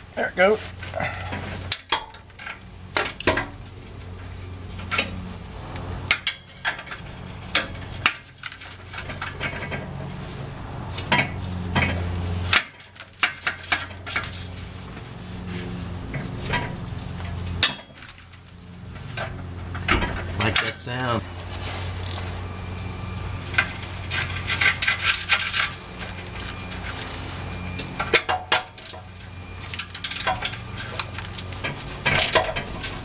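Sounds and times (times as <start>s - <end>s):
low hum: 0.8s - 33.0s.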